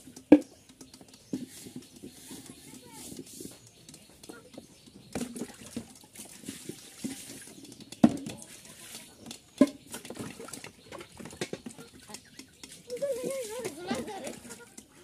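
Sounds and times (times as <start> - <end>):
chickens pecking grain: 0.0 - 15.0.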